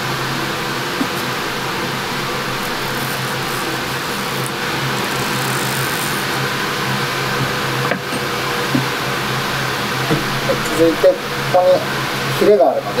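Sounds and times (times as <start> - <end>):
kitchen ventilation fan whirring: 0.0 - 13.0.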